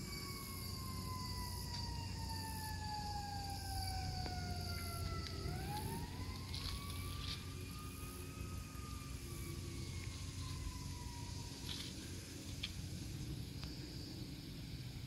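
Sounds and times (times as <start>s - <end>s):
emergency vehicle siren wailing: 0.0s - 12.8s
steady low rumble: 0.0s - 15.0s.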